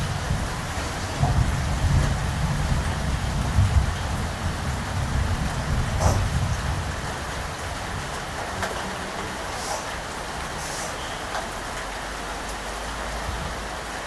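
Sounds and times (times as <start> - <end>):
distant thunder rumble: 0.0 - 11.6
steady rain hiss: 0.0 - 14.0.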